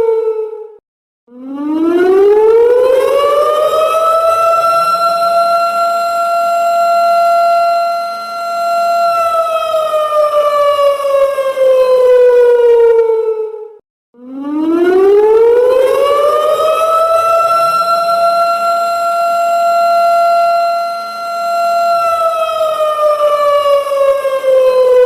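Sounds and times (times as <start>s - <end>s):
siren alarm tone: 0.0s - 25.0s.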